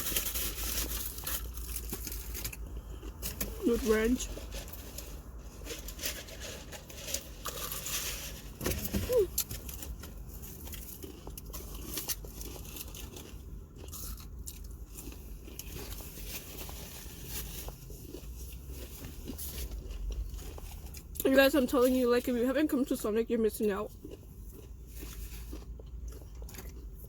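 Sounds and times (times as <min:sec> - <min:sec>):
crunching and chewing food: 0:00.0 - 0:27.0.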